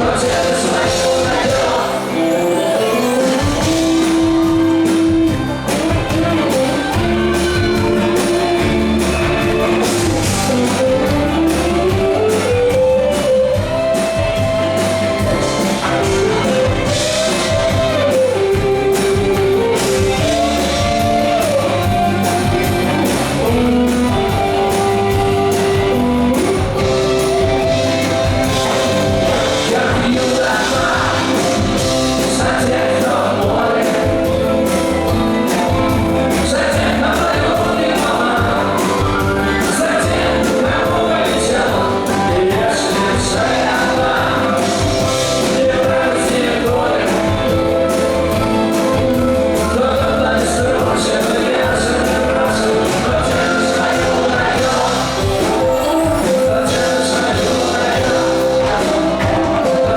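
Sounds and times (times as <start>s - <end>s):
rock band playing live: 0.0s - 59.9s
sung vocals: 0.0s - 59.9s.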